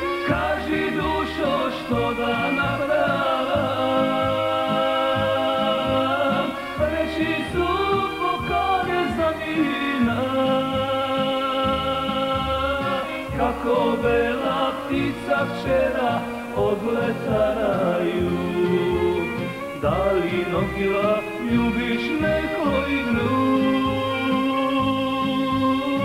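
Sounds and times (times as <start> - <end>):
band with bass line: 0.0 - 26.0
man singing slow song: 0.0 - 26.0.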